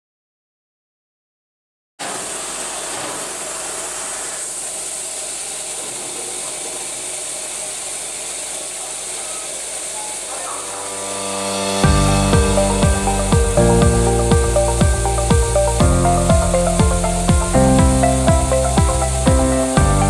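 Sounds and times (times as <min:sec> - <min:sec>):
milling machine running: 0:02.0 - 0:20.0
strong high hiss: 0:02.0 - 0:20.0.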